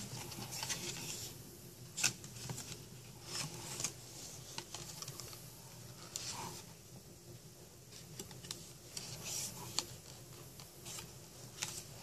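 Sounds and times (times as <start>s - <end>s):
book pages rustling: 0.0s - 1.4s, 2.0s - 6.7s, 7.9s - 12.0s.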